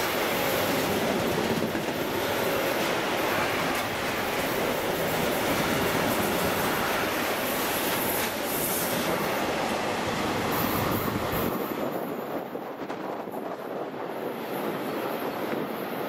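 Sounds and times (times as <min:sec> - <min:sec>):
freight train wheels clattering on rail: 0:00.0 - 0:16.0.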